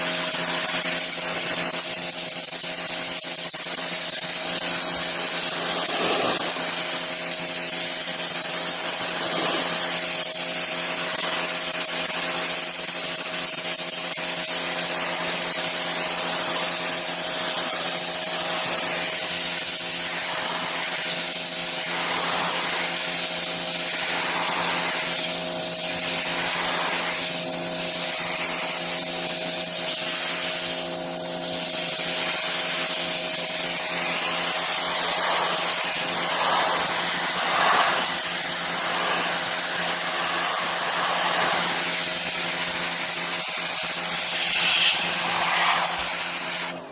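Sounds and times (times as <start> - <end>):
high-pressure water spray hiss: 0.0 - 46.9
motor pump hum: 0.0 - 46.9.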